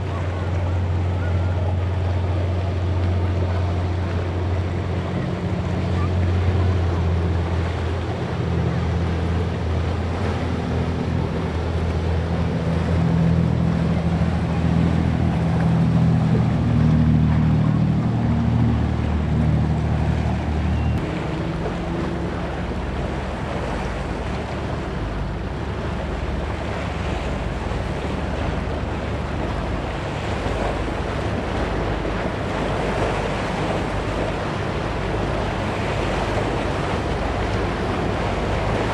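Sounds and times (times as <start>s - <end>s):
motorboat engines droning: 0.0s - 38.9s
surf: 0.0s - 38.9s.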